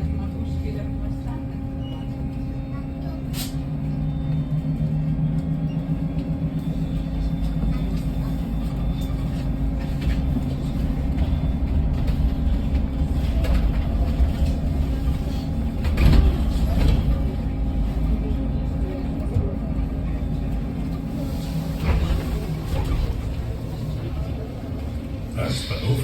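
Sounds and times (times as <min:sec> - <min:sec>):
bus road rumble: 0:00.0 - 0:26.0.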